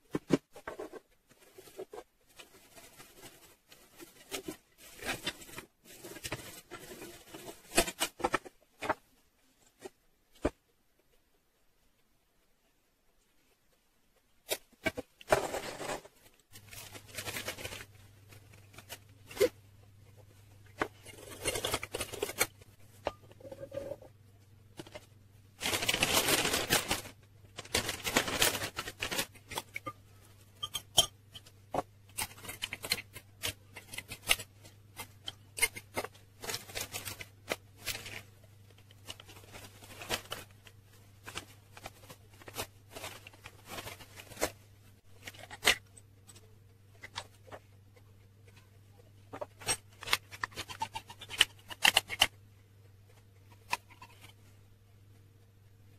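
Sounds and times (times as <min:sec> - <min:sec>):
rustling: 0:00.0 - 0:10.7, 0:13.2 - 0:52.4
faint steady hum: 0:00.0 - 0:55.9.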